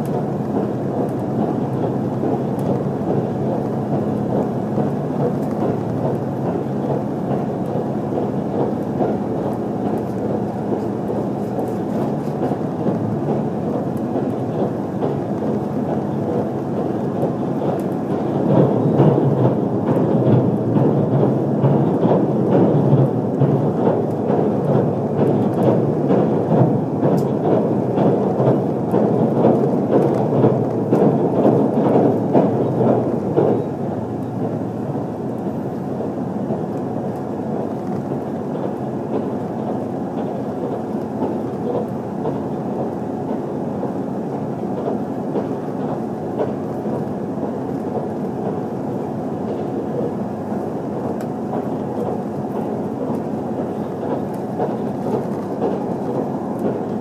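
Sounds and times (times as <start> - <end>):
train cabin rumble: 0.0 - 57.0.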